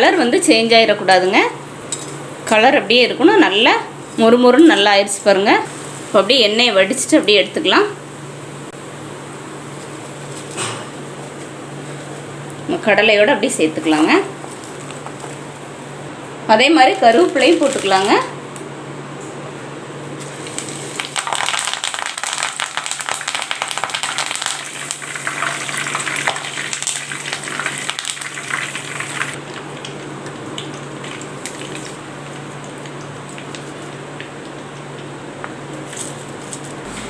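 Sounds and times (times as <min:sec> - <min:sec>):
leaves sizzling in hot oil: 0:03.2 - 0:16.0, 0:16.8 - 0:18.3, 0:20.1 - 0:37.0.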